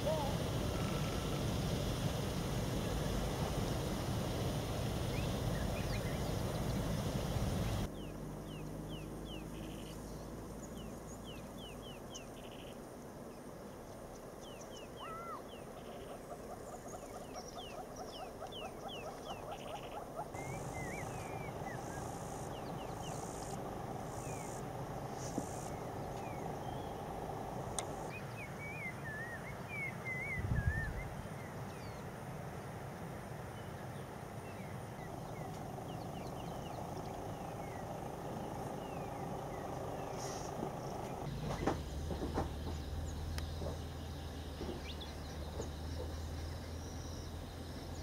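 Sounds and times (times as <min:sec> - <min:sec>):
birds chirping: 0:00.0 - 0:32.1, 0:33.6 - 0:48.0.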